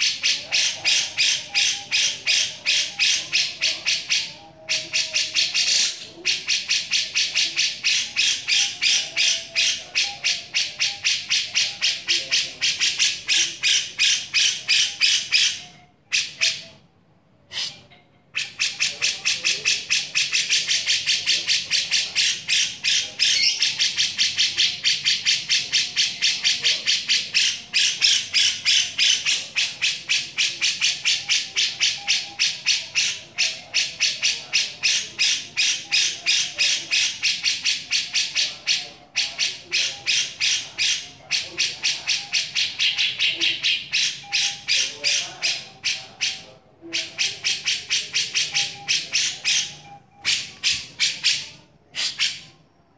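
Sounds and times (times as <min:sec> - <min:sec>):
bird harsh rasping notes: 0:00.0 - 0:16.8, 0:17.5 - 0:52.6.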